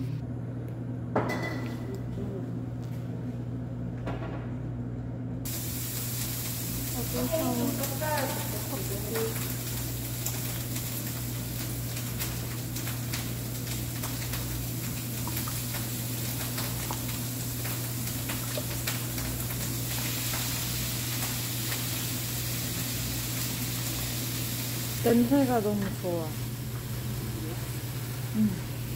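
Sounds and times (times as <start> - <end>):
range hood fan humming: 0.0 - 28.9
food sizzling in a frying pan: 5.5 - 28.9.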